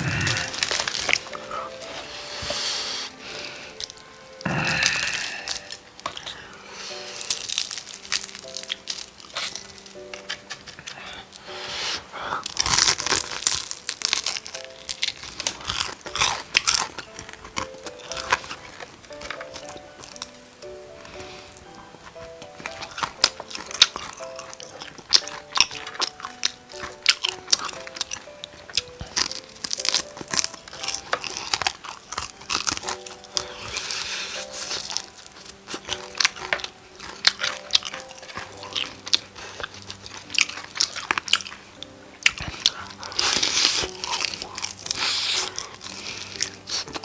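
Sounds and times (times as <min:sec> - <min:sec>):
crunching fried chicken: 0:00.0 - 0:11.6, 0:12.2 - 0:47.0.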